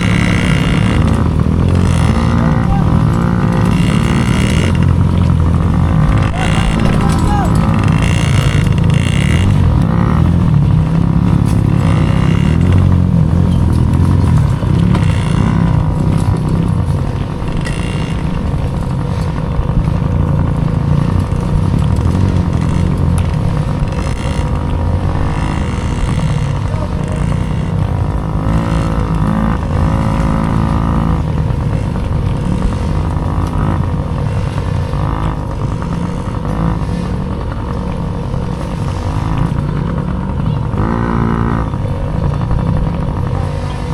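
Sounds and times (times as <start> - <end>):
dirt bike engine revving: 0.0 - 43.9
loud low rumble: 0.0 - 43.9.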